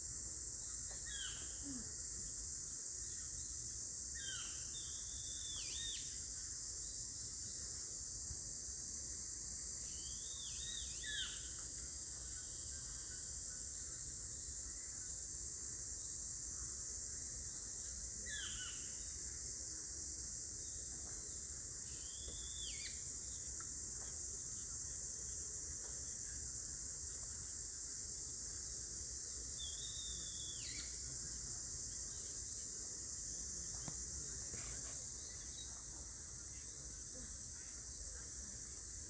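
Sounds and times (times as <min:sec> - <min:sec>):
steady high-pitched hiss: 0:00.0 - 0:39.0.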